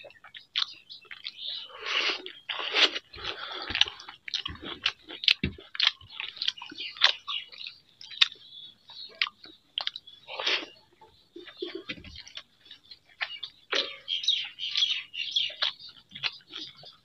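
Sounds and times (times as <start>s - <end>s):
chewing and crunching food: 0.0s - 17.0s
mouth smacks and clicks: 0.0s - 17.0s.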